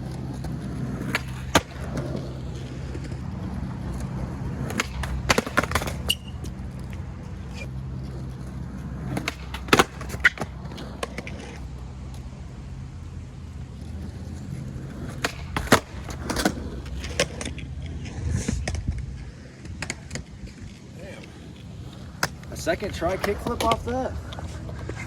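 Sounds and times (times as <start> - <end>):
skateboard popping and landing: 0.0 - 12.2, 13.9 - 25.0
skateboard rolling on concrete: 0.0 - 25.0.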